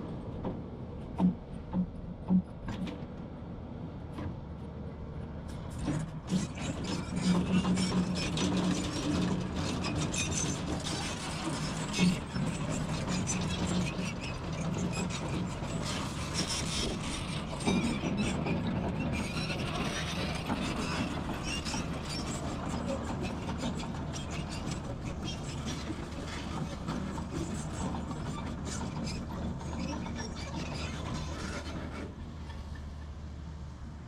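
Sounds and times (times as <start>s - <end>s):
diesel engine running: 5.4s - 34.0s.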